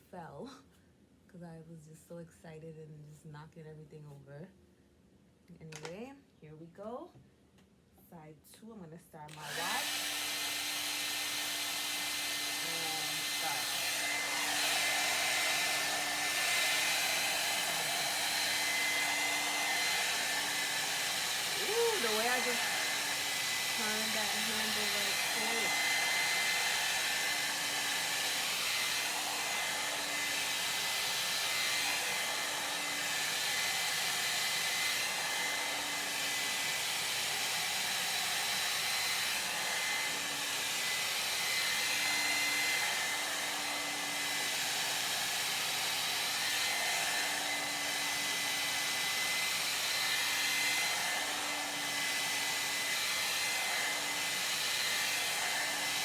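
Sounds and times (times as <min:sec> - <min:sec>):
hair dryer blowing: 0:09.2 - 0:56.0
hair dryer motor whine: 0:09.3 - 0:56.0.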